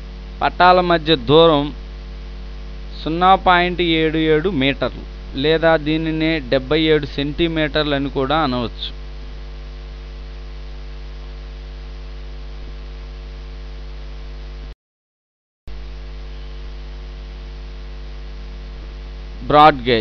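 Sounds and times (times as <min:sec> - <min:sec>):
electrical mains hum: 0:00.0 - 0:14.8, 0:15.7 - 0:20.0.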